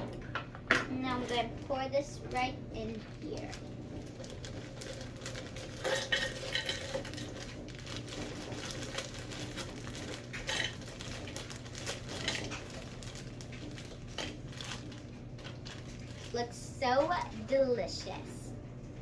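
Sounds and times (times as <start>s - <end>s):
frozen pieces rattling into cup: 0.9s - 18.1s.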